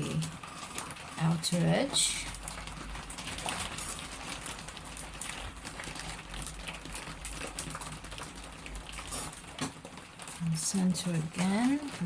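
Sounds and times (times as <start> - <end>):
potter's wheel humming: 0.0 - 12.0
rain pattering: 0.0 - 12.0.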